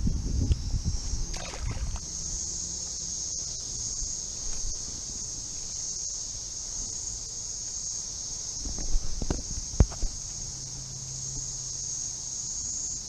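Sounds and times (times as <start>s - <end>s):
cicadas chorusing: 0.0s - 13.0s.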